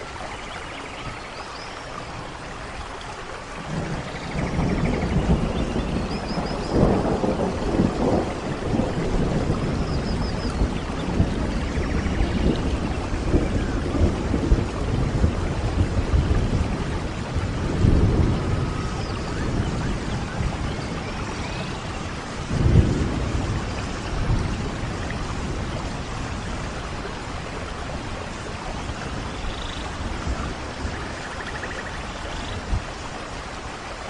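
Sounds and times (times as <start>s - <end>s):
steady rain: 0.0s - 34.0s
thunder rolling: 3.6s - 31.8s.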